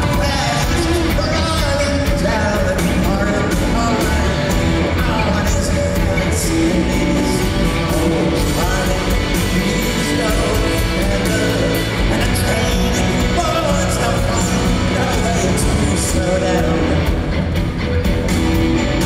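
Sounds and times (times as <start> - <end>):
man singing: 0.0 - 17.4
live rock band playing: 0.0 - 19.0.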